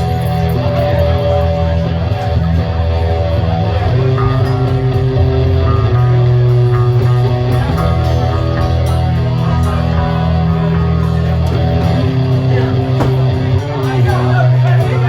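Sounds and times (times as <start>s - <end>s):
bass guitar: 0.0s - 15.0s
electric guitar chords: 0.0s - 15.0s
live band playing: 0.0s - 15.0s.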